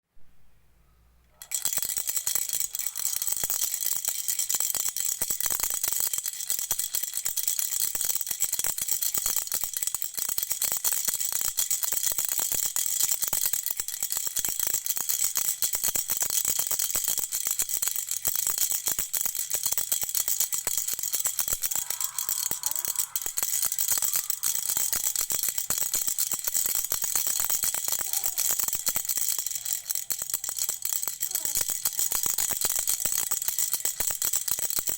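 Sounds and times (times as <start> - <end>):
child's rattle shaken: 1.3 - 34.9.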